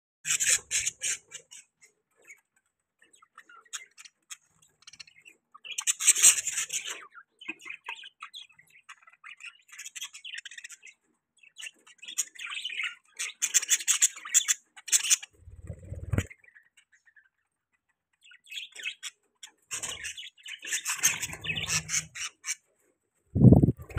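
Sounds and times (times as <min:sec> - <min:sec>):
budgerigars chirping and squawking: 0:00.3 - 0:23.9.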